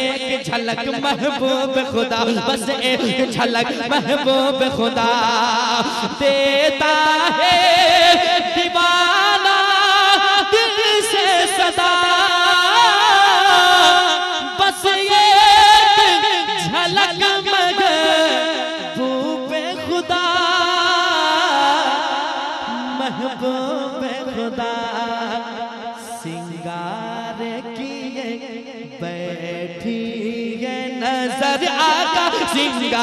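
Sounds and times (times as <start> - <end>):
devotional singing: 0.0 - 33.0.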